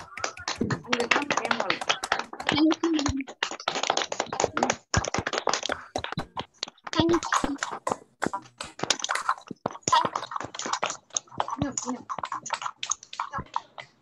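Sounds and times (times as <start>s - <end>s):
children clapping: 0.0s - 14.0s
voices: 0.0s - 14.0s.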